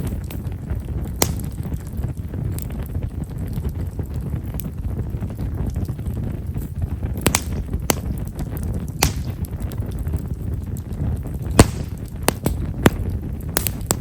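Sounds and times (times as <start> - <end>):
bonfire crackling: 0.0 - 14.0
sharp pops of burning wood: 0.0 - 14.0
steady low rumble: 0.0 - 14.0.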